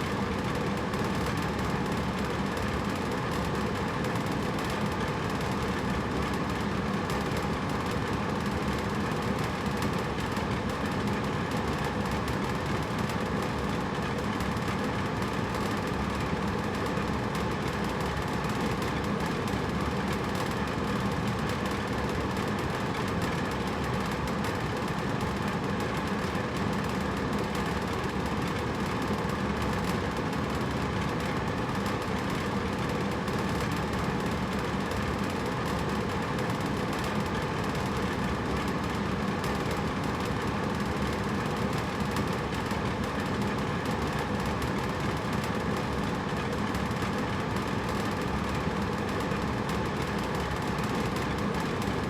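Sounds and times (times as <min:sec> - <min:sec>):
air conditioner humming: 0:00.0 - 0:52.0.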